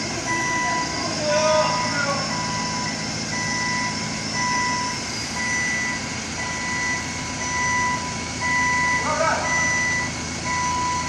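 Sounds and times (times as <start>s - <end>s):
forklift backup alarm beeping: 0.0s - 11.0s
forklift engine running: 0.0s - 11.0s.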